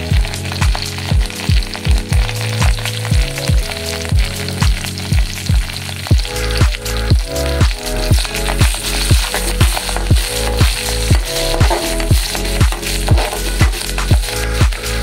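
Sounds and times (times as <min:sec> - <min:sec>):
background music with drum beat: 0:00.0 - 0:15.0
oil sizzling in a pan: 0:00.0 - 0:15.0.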